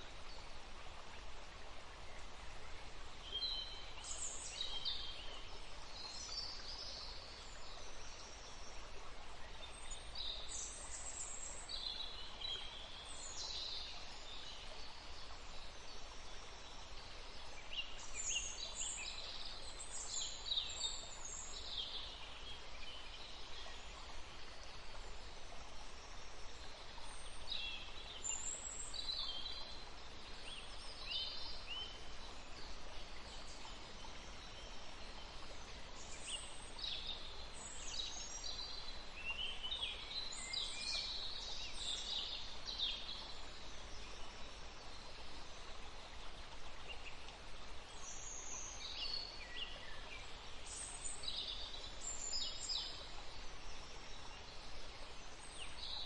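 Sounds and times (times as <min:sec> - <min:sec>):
background hiss: 0:00.0 - 0:56.0
songbirds chirping: 0:00.0 - 0:56.0.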